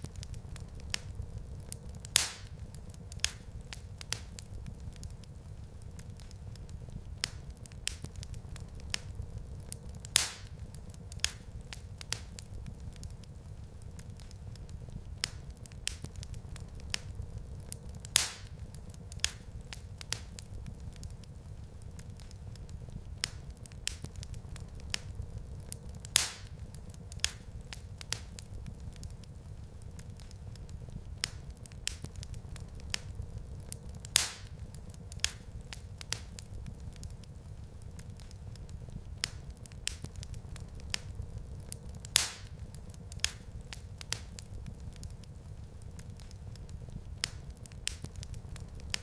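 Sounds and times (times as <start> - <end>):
fire snapping and popping: 0.0 - 49.0
low rumble of burning wood: 0.0 - 49.0.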